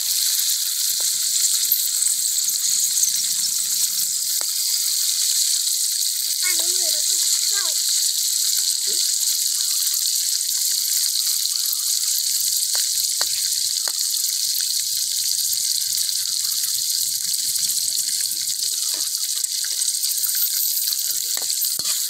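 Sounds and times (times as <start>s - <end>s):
hot oil sizzling in a wok: 0.0s - 22.0s.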